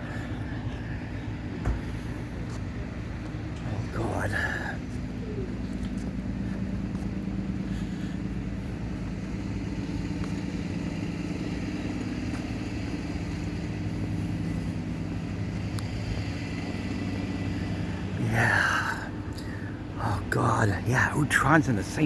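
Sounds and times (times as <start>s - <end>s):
diesel locomotive engine hum: 0.0s - 22.0s.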